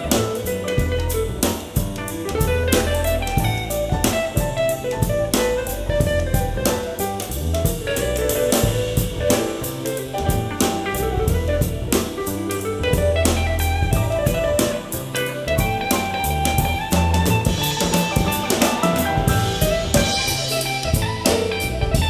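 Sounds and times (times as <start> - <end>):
instrumental jazz music: 0.0 - 22.0.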